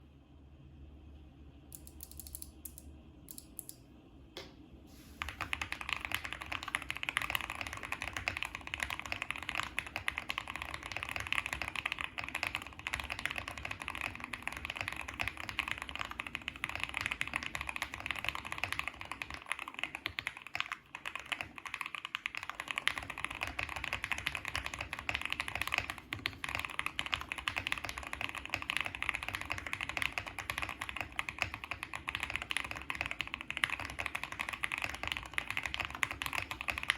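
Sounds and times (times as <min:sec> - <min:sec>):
mechanical keyboard typing: 0:01.8 - 0:03.8, 0:05.2 - 0:36.9.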